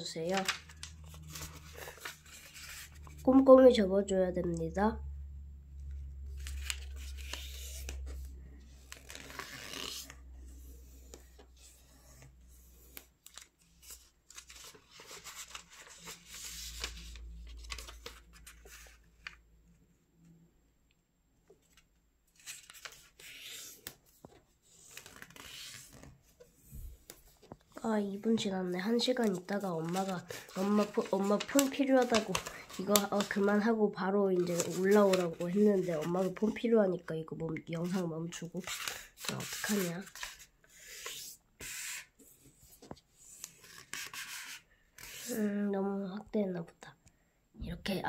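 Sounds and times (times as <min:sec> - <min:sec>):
paper rustling and crinkling: 0:00.0 - 0:03.2, 0:06.3 - 0:19.4, 0:21.6 - 0:36.6, 0:37.8 - 0:45.4.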